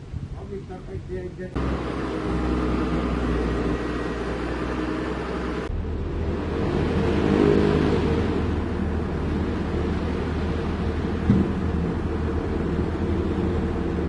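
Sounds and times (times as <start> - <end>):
diesel engine running: 1.2 - 14.0.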